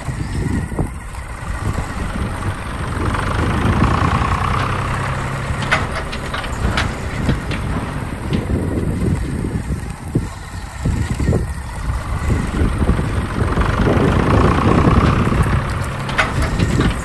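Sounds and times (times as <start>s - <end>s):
plastic wheels rolling on pavement: 0.0s - 17.0s.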